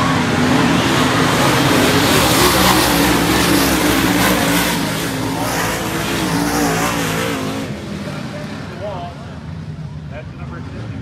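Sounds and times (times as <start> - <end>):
race car engines roaring: 0.0 - 11.0.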